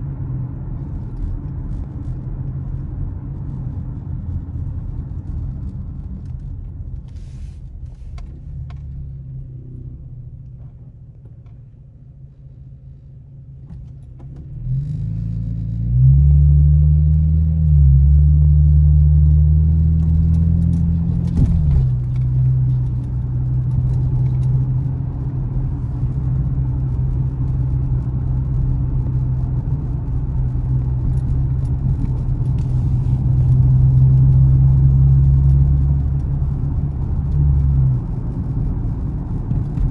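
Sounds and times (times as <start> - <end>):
car engine and exhaust droning: 0.0 - 39.9.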